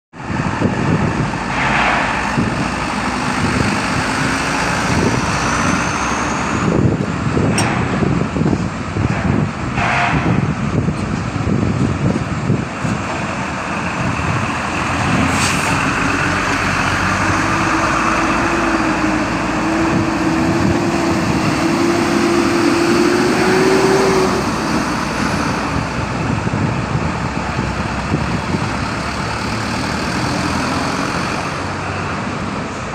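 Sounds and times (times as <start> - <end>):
truck diesel engines running: 0.1 - 32.9
engine note climbing: 0.2 - 32.7.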